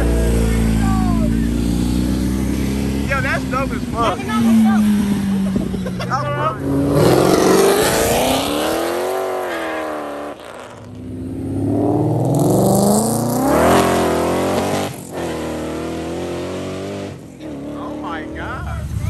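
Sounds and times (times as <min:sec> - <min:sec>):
car accelerating hard: 0:00.0 - 0:19.0
car engines revving: 0:00.0 - 0:19.0.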